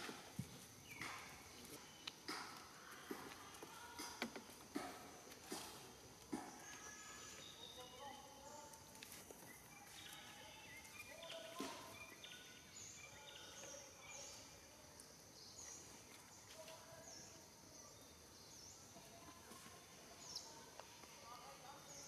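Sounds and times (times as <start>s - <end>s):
bird chirping: 0.0s - 4.9s, 5.5s - 22.0s.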